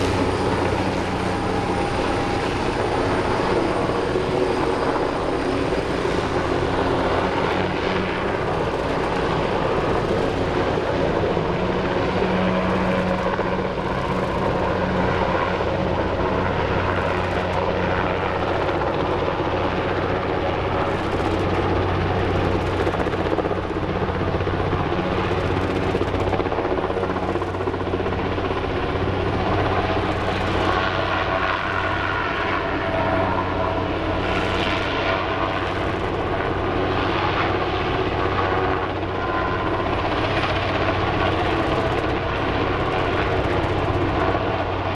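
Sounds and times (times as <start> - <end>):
helicopter rotor and engine: 0.0 - 44.9.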